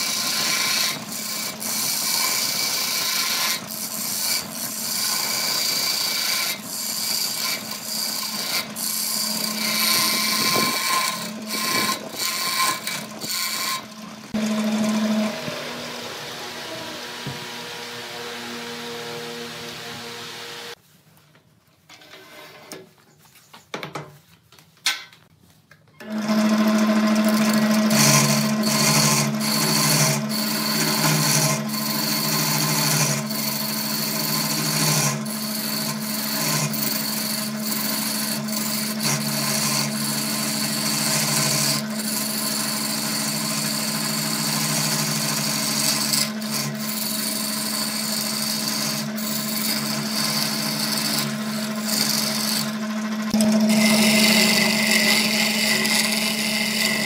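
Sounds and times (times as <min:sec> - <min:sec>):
turning tool scraping wood: 0:00.0 - 0:20.5, 0:21.9 - 0:23.6, 0:26.0 - 0:57.0
lathe motor humming: 0:00.0 - 0:20.8, 0:26.0 - 0:57.0.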